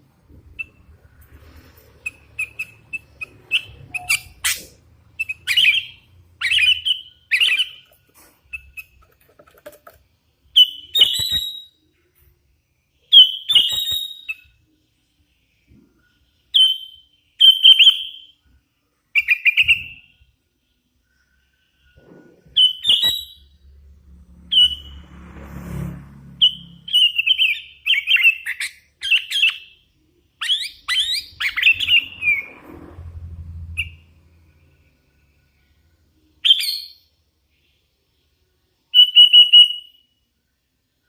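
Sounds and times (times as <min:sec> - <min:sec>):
bird chirping: 0:00.3 - 0:09.7, 0:10.4 - 0:12.3, 0:13.0 - 0:25.2, 0:26.4 - 0:32.8, 0:33.6 - 0:40.2.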